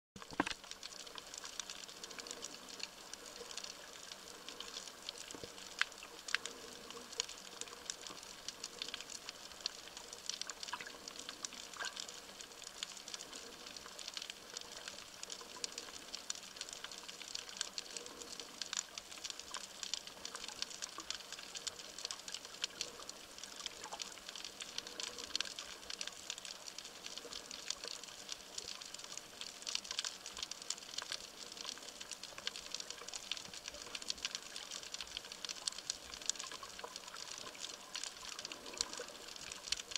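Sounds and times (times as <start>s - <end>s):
dense underwater crackle of clicks: 0.2s - 39.9s
sharp underwater clicks: 0.2s - 39.9s.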